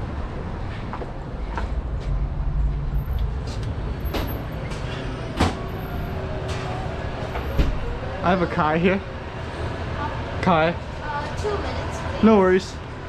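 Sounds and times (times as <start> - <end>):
car rumble: 0.0 - 11.9.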